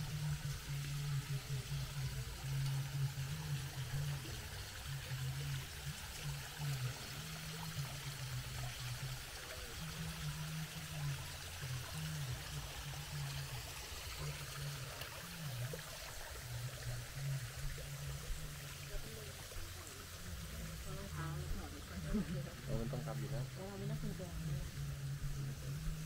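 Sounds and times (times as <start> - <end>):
stream water trickling: 0.0 - 26.0.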